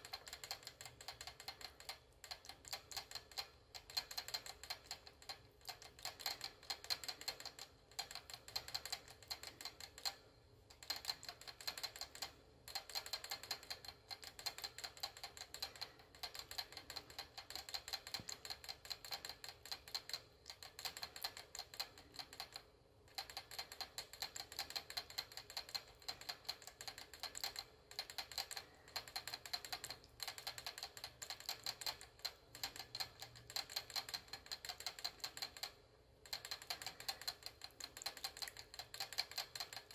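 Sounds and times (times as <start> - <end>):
rat licking water bottle spout: 0.0 - 39.9.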